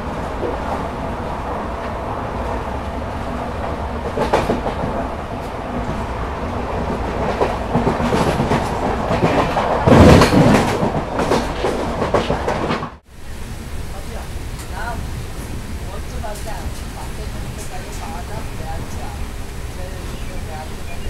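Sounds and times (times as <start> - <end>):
heavy train rattle: 0.0 - 21.0
train rumble: 0.0 - 21.0
train wheels clattering over joints: 1.8 - 13.0, 14.6 - 21.0.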